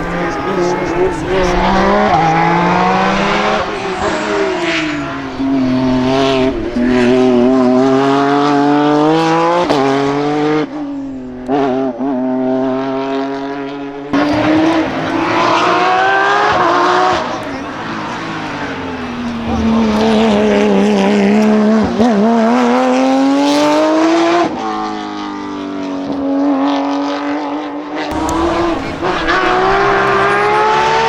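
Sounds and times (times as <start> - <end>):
race car engine at high revs: 0.0 - 31.0.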